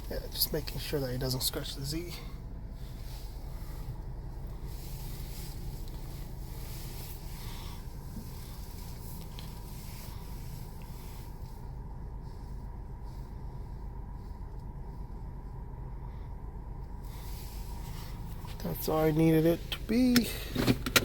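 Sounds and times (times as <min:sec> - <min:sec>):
car engine running at low speed: 0:00.0 - 0:21.0.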